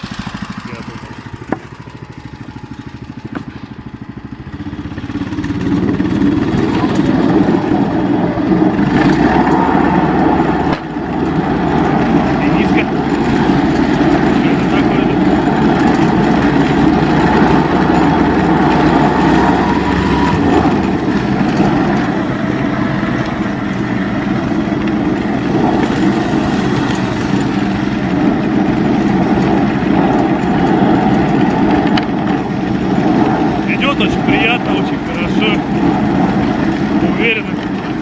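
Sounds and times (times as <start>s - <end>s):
snowmobile engine running: 0.0s - 38.0s.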